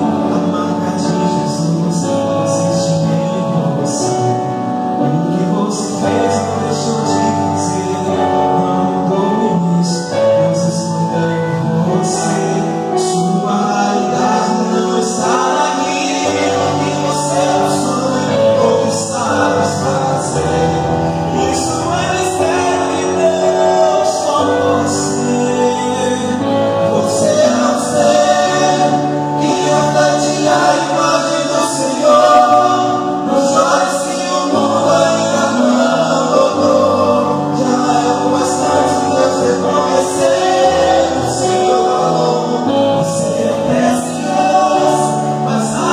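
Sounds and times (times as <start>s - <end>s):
male vocal quartet singing gospel: 0.0s - 45.9s.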